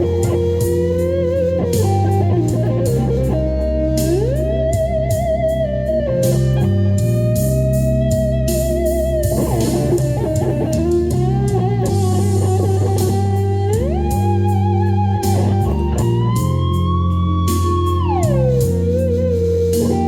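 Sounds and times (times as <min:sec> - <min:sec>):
blues-rock backing track: 0:00.0 - 0:20.0
lead electric guitar: 0:00.0 - 0:20.0.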